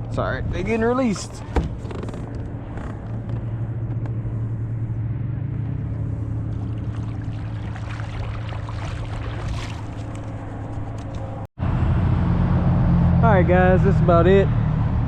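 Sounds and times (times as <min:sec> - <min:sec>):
low motor drone: 0:00.0 - 0:15.0.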